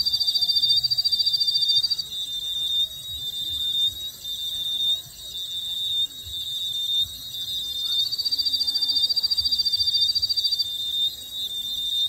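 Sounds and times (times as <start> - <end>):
repeating electronic beep: 0.0 - 12.0.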